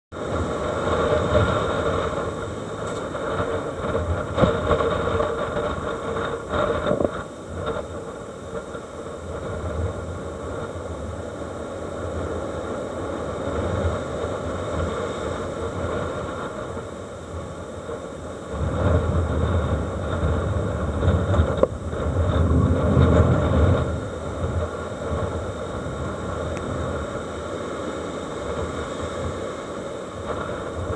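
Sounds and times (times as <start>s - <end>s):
rough sea: 0.1s - 30.9s
strong storm wind: 0.1s - 30.9s.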